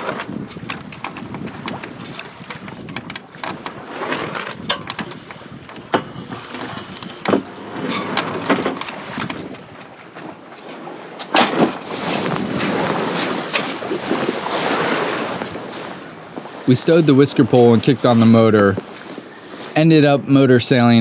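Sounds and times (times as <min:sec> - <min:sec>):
water rushing along a hull: 0:00.0 - 0:21.0
wind: 0:00.0 - 0:21.0.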